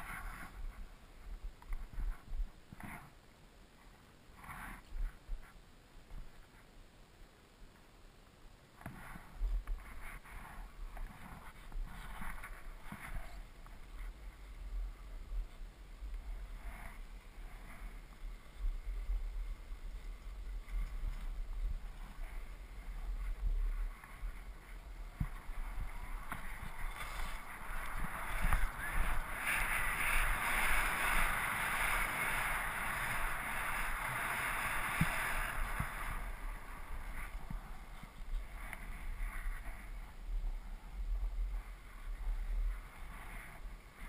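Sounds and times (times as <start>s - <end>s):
skis scraping over snow: 0.0s - 3.2s, 8.8s - 44.0s
wind rumble on microphone: 0.0s - 3.2s, 8.8s - 44.0s.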